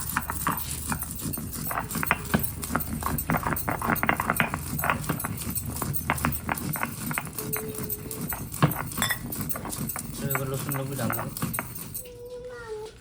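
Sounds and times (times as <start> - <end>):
hand grinder clacking and scraping: 0.0 - 12.4.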